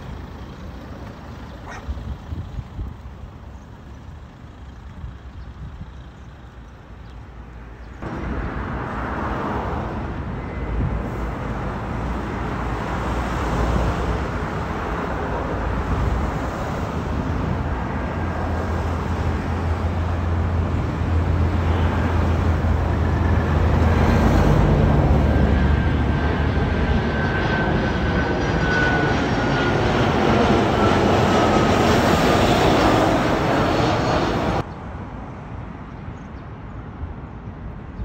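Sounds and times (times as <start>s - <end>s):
jet engines rumbling overhead: 0.0s - 38.0s
street traffic: 0.0s - 38.0s.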